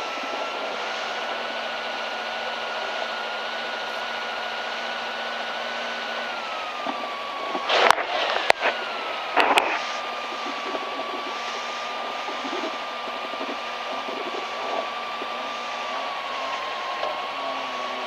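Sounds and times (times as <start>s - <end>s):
car cabin running hum: 0.0s - 3.1s, 6.1s - 18.0s.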